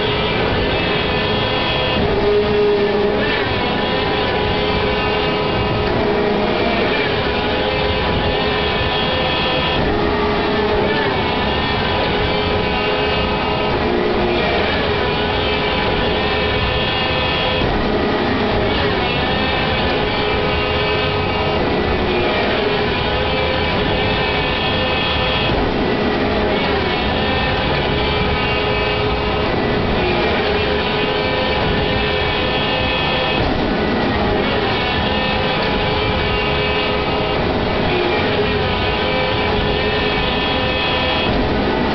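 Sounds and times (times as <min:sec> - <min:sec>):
high whine: 0:00.0 - 0:41.9
mechanical model motor running: 0:00.0 - 0:41.9
ride machine noise: 0:00.0 - 0:41.9.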